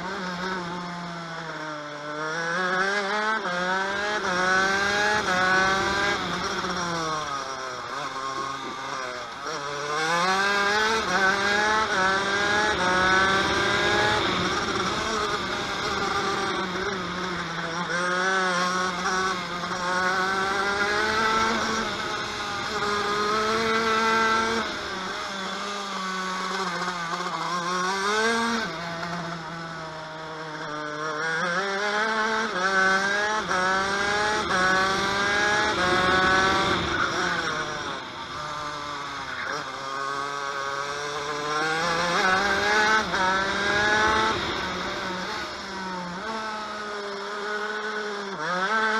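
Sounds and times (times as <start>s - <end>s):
kart engine revving: 0.0s - 48.9s.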